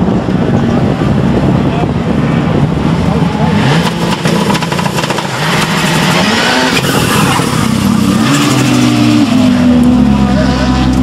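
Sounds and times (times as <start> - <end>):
race car engine with throttle blips: 0.0 - 11.0.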